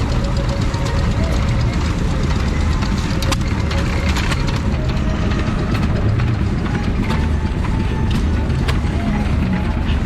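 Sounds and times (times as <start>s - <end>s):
stationary engine rumbling: 0.0s - 10.0s.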